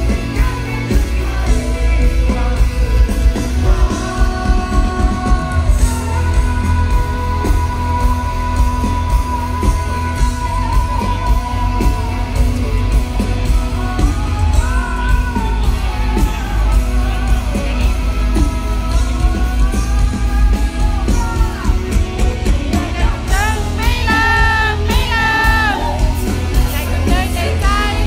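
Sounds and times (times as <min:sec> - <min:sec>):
electric guitar: 0:00.0 - 0:28.0
heavy bass: 0:00.0 - 0:28.0
man singing: 0:00.0 - 0:28.0
steady drum beat: 0:00.0 - 0:28.0.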